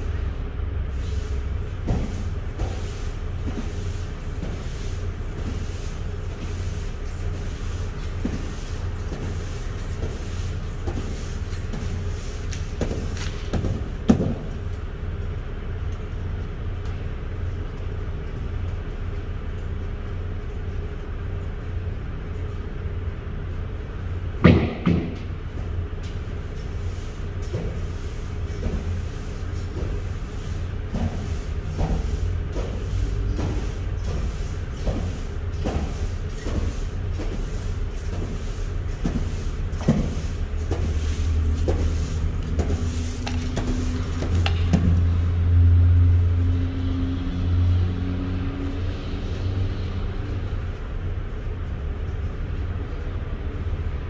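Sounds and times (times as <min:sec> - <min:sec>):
broom sweeping metal floor: 0:00.0 - 0:15.4, 0:23.4 - 0:54.0.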